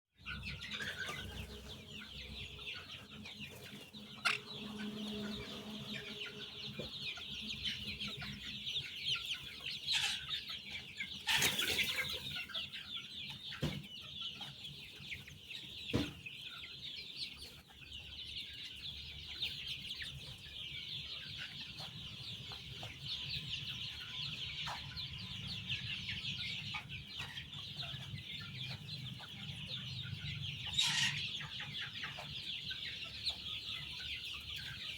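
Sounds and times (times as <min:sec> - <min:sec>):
chicks peeping: 0:00.2 - 0:34.9.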